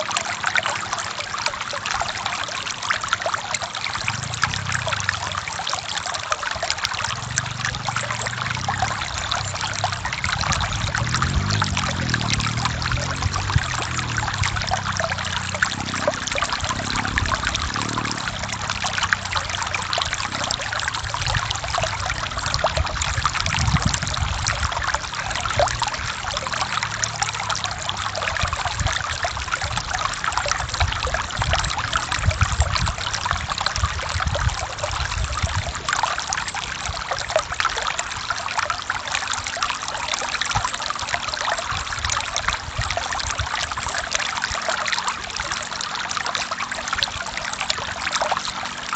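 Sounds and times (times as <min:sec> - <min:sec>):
stream flowing over rocks: 0:00.0 - 0:48.9.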